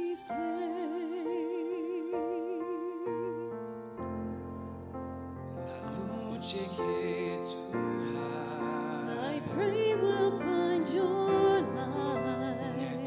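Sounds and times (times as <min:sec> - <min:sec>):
person singing with vibrato: 0:00.0 - 0:03.9, 0:05.7 - 0:13.0.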